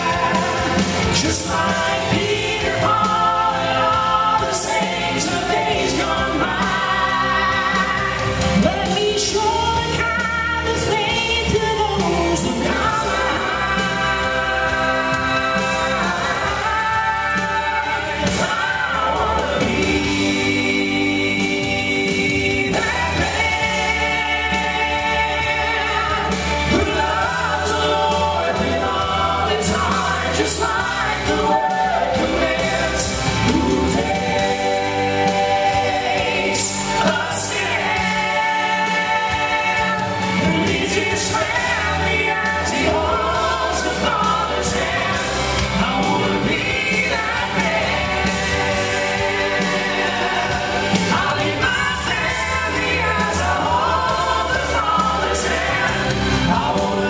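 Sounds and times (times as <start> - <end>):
male vocal group singing gospel: 0.0 - 57.0.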